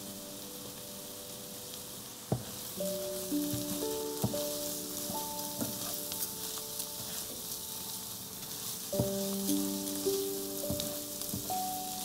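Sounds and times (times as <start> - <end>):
grains ticking: 0.0 - 12.0
rice sizzling in butter: 0.0 - 12.0
soft background music: 0.0 - 12.0
wooden spoon scraping grains: 1.8 - 12.0.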